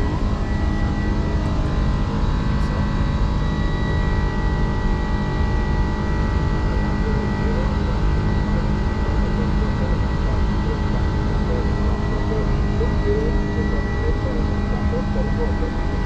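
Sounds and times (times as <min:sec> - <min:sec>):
aircraft cockpit engine noise: 0:00.0 - 0:16.0.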